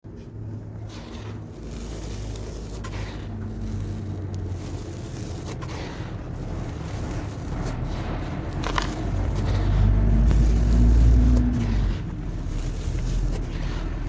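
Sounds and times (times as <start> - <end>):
constant low hum: 0.0 - 14.0
gritty cement scraping: 0.1 - 14.0.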